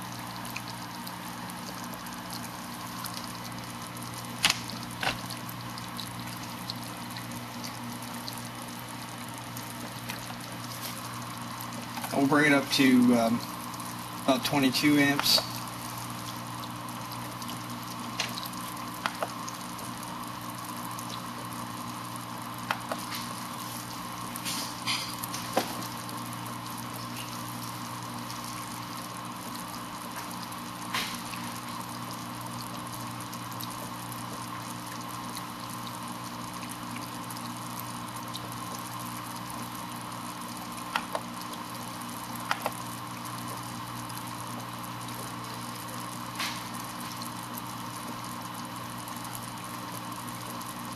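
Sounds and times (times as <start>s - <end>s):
steady electrical hum: 0.0s - 50.9s.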